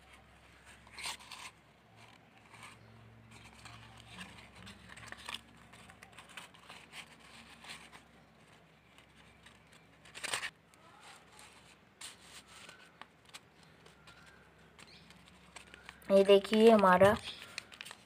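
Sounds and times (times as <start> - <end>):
paper banknotes rustling: 0.0 - 18.0.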